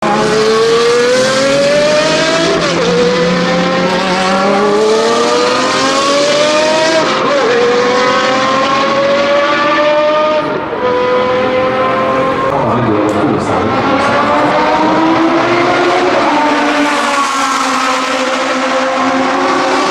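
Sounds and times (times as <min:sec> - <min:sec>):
race car engine accelerating hard: 0:00.0 - 0:19.9.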